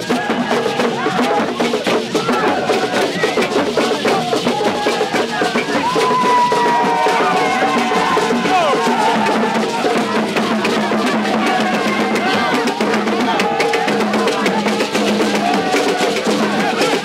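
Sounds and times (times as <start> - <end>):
drum and percussion music: 0.0 - 17.0
voices: 0.0 - 17.0.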